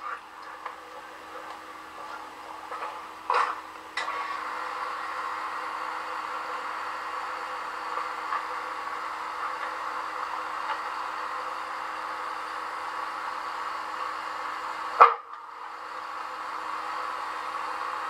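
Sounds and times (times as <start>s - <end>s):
low constant hum: 0.0s - 18.0s
steady hiss: 0.0s - 18.0s.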